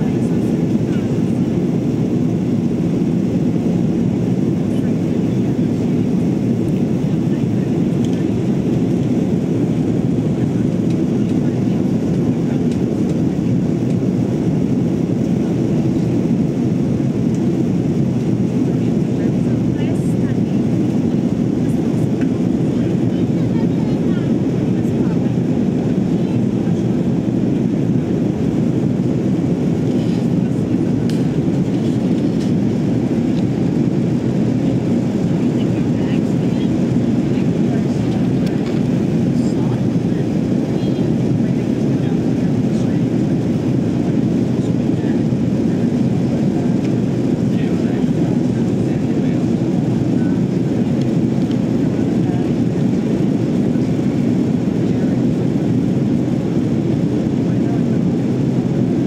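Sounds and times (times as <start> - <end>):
airliner cabin engine noise: 0.0 - 59.0.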